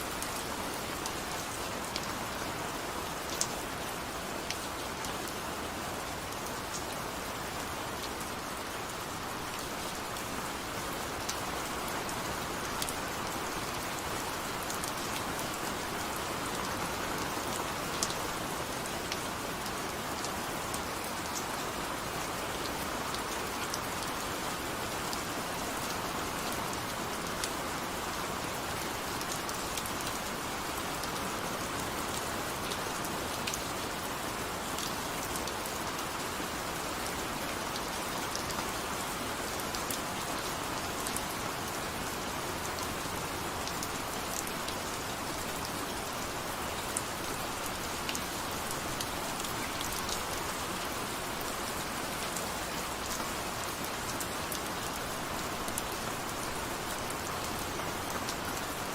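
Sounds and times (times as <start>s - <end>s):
steady rain falling: 0.0s - 58.9s
raindrops ticking on a surface: 0.1s - 58.9s.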